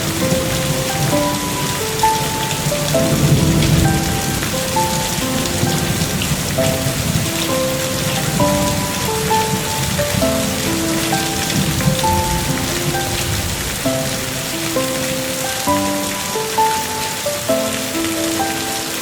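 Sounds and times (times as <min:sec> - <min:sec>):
gentle melody of held notes: 0:00.0 - 0:19.0
steady rain falling: 0:00.0 - 0:19.0.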